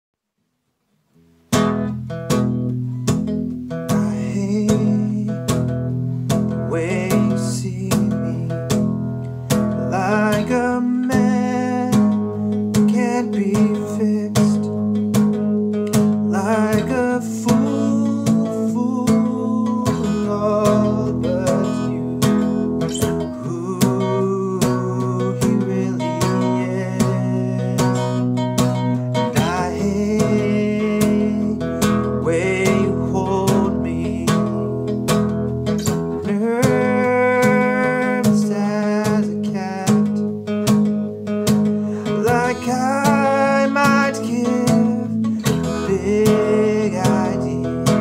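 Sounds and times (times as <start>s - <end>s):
acoustic guitar strumming: 1.1s - 48.0s.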